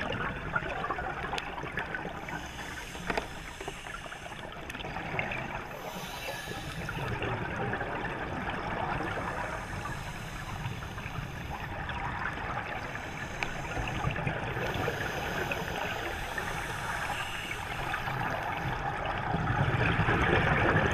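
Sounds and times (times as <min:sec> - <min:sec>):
underwater bubbles gurgling: 0:00.0 - 0:20.9.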